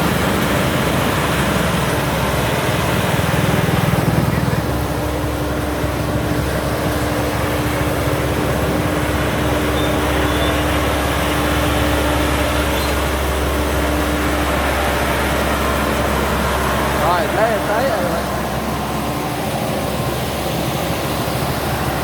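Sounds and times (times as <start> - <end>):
road noise: 0.0 - 22.0
steady hum: 0.0 - 22.0
vehicle engine running: 0.0 - 22.0.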